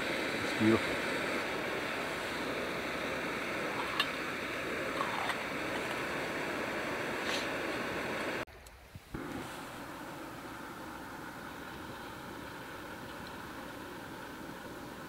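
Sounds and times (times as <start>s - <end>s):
gas stove burner hissing: 0.0s - 15.0s.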